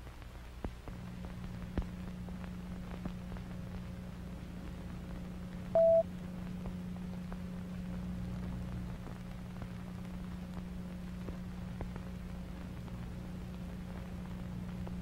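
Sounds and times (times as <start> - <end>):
clicks and crackles: 0.0 - 15.0
low analog hum: 0.0 - 15.0.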